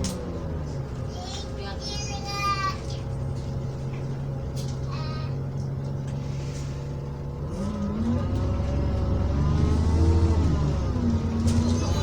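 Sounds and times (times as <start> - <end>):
bus engine idling and revving: 0.0 - 12.0.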